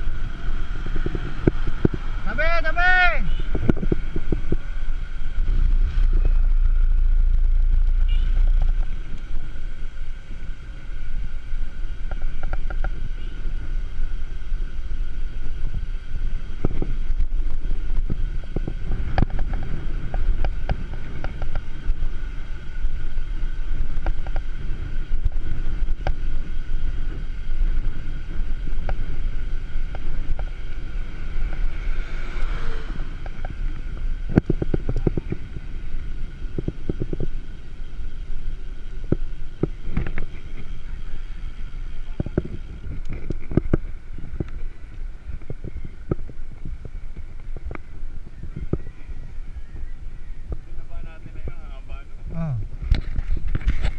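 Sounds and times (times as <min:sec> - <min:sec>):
bike rattling and clicking: 0:00.0 - 0:02.8, 0:03.4 - 0:53.9
road rumble: 0:00.0 - 0:53.9
wind on microphone: 0:00.0 - 0:53.9.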